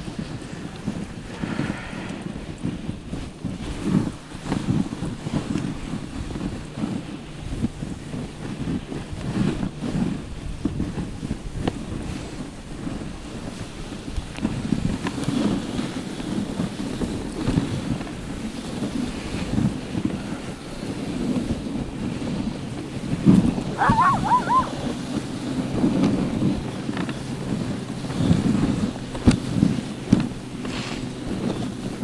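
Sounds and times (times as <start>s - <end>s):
sled gliding over snow: 0.0s - 32.0s
wind buffeting microphone: 0.0s - 32.0s.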